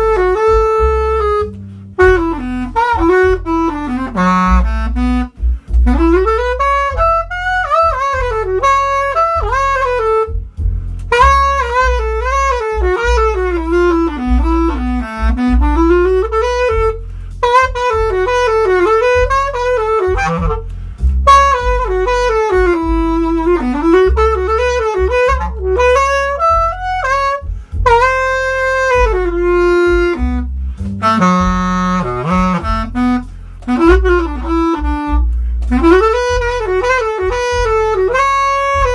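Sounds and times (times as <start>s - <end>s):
bass clarinet jazz melody: 0.0s - 38.9s.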